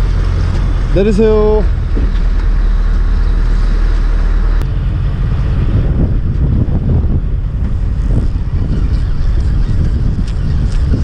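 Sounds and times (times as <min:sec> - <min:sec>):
boat engine running: 0:00.0 - 0:11.0
wind rumbling on microphone: 0:00.0 - 0:11.0.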